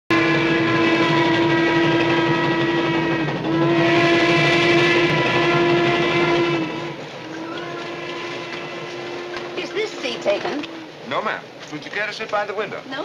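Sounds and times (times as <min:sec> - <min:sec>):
steam locomotive whistle: 0:00.1 - 0:11.0
train rumbling: 0:00.1 - 0:13.0.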